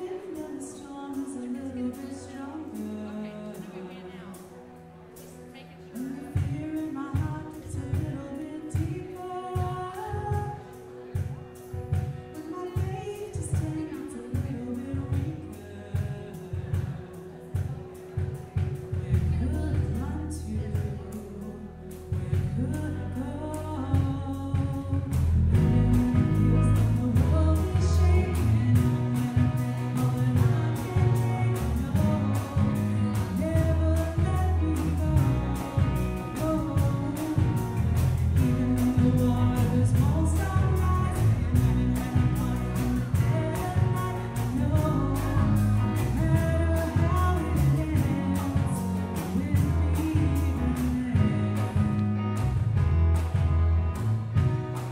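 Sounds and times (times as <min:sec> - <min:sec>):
woman singing lead: 0:00.0 - 0:52.6
worship band playing: 0:00.0 - 0:54.9.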